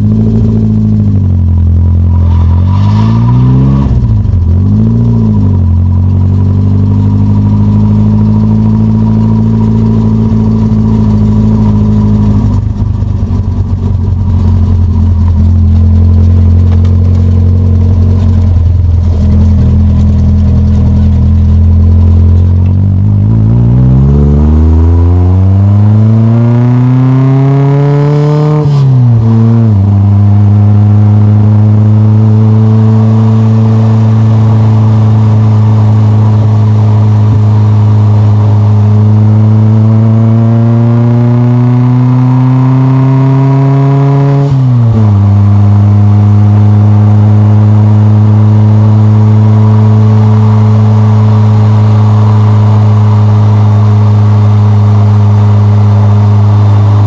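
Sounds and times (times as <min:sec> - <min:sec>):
car engine exhaust: 0:00.0 - 0:57.0.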